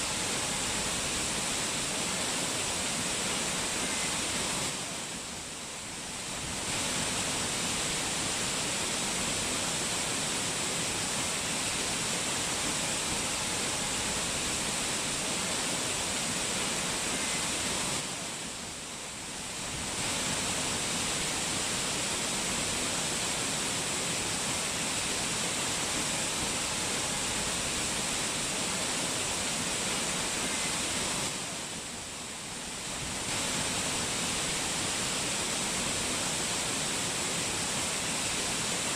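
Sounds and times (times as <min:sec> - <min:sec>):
waterfall rushing water: 0:00.0 - 0:38.9.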